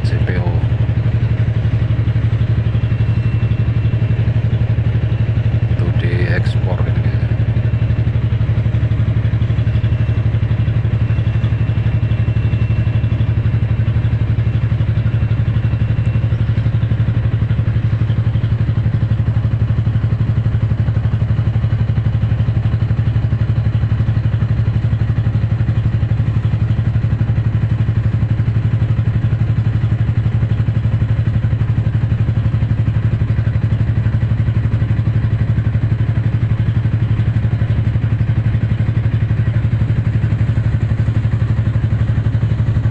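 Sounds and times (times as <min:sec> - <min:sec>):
engine droning steadily: 0:00.0 - 0:42.9.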